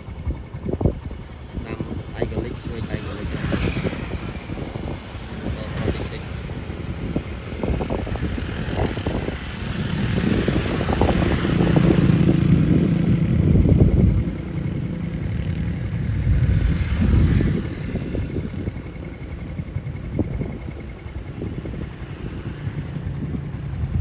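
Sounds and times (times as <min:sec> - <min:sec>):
vehicle engine humming: 0:00.0 - 0:24.0
wind rumble on microphone: 0:00.0 - 0:24.0.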